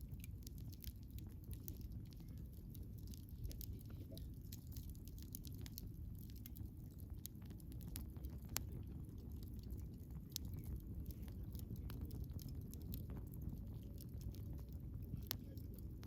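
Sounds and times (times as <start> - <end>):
bonfire crackling and popping: 0.0 - 16.0
low fire rumble: 0.0 - 16.0.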